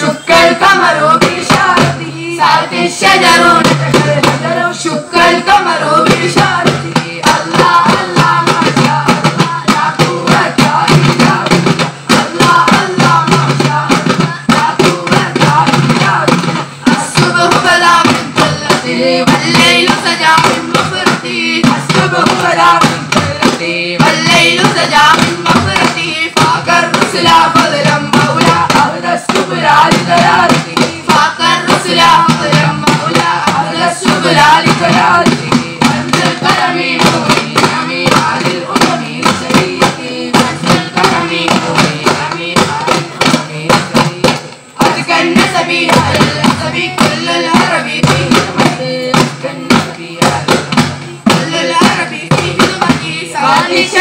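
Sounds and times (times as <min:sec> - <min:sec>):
boys singing together: 0:00.0 - 0:54.0
frame drums beating: 0:00.0 - 0:54.0.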